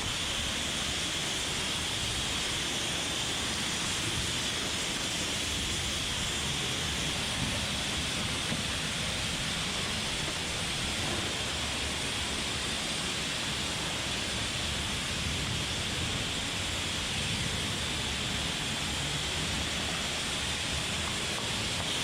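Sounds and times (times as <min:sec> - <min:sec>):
pressure washer running: 0:00.0 - 0:22.0.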